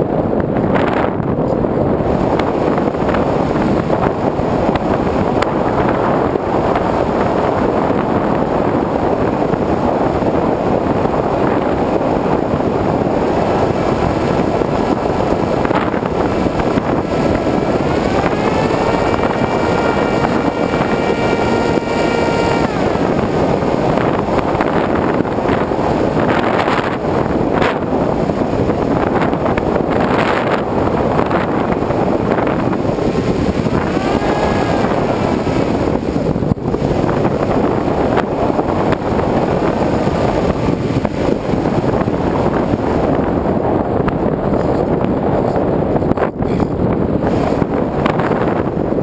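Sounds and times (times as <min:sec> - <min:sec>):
wind rush on microphone: 0:00.0 - 0:49.0
electric motor and propeller whine: 0:01.8 - 0:45.0.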